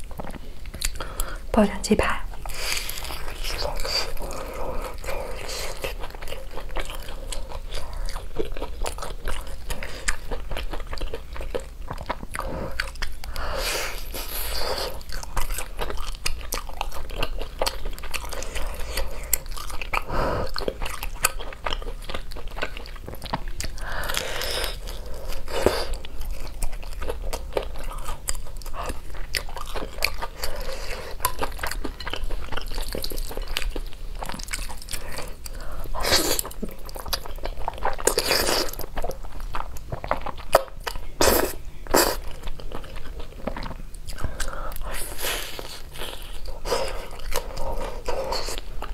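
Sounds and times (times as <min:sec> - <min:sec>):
crunchy chewing of fried chicken: 0:02.3 - 0:48.9.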